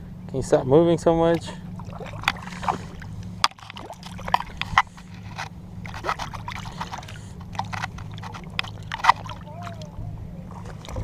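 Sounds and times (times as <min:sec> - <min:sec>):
steady low hum: 0:00.0 - 0:11.0
water sloshing and splashing: 0:01.1 - 0:11.0.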